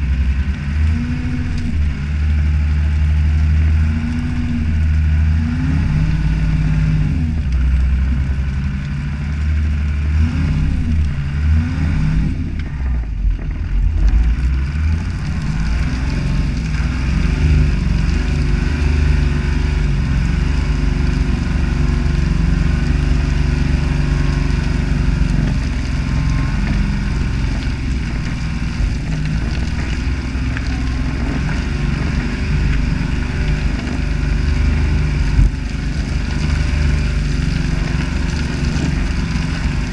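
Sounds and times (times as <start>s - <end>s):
diesel truck engine in mud: 0.0s - 39.9s.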